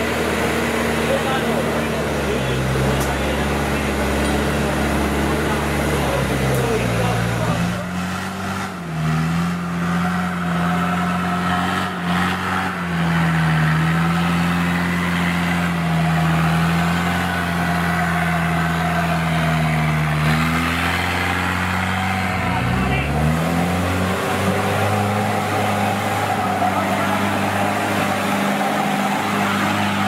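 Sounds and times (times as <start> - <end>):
engine running under load: 0.0 - 30.0.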